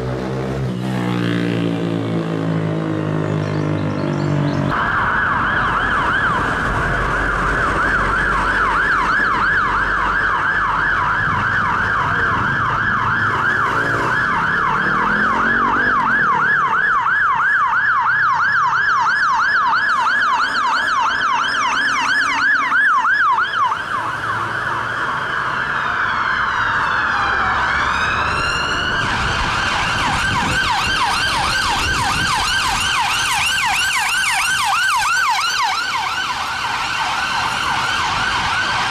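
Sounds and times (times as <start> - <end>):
fire engine siren yelping: 2.1 - 38.9.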